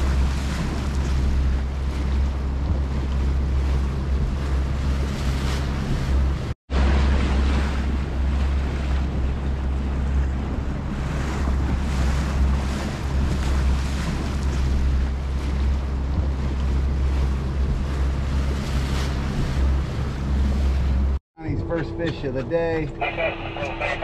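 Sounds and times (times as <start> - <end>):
wind buffeting microphone: 0.0 - 21.2
boat engine running: 0.0 - 24.0
water rushing past hull: 0.0 - 24.0.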